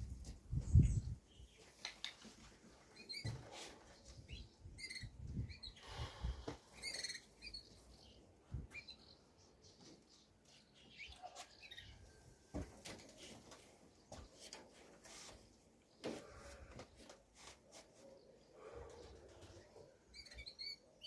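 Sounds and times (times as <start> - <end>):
small birds chirping: 0.5 - 12.2, 13.1 - 21.0.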